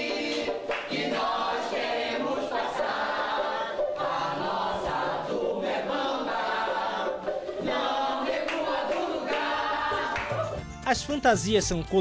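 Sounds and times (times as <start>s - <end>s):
group singing in chorus: 0.0s - 10.6s.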